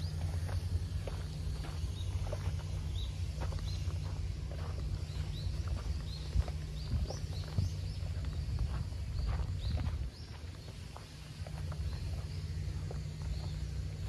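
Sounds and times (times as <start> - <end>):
footsteps on a dirt path: 0.0 - 14.0
small birds chirping: 0.0 - 14.0
steady low rumble: 0.0 - 14.0.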